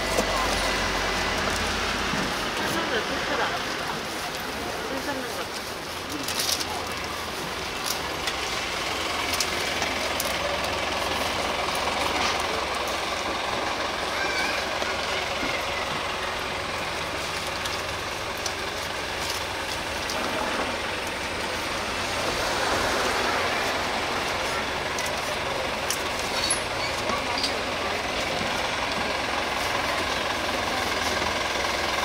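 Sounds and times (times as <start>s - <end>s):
faint voices: 0.0s - 32.0s
street traffic: 0.0s - 32.0s.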